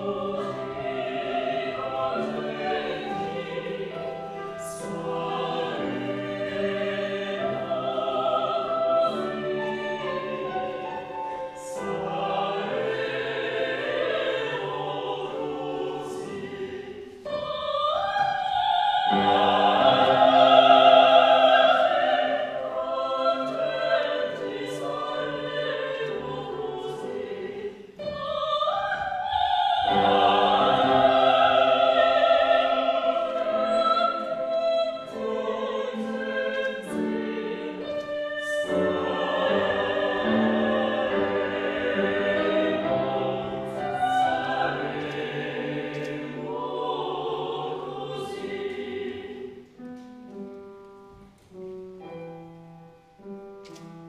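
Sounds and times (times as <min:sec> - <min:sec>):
voices singing opera: 0:00.0 - 0:53.9.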